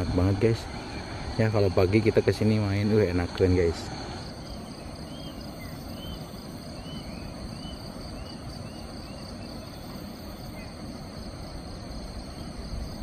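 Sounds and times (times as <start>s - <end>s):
bird chirping: 0.0s - 11.2s, 12.2s - 13.0s
high insect drone: 0.0s - 13.0s
low background rumble: 0.0s - 13.0s.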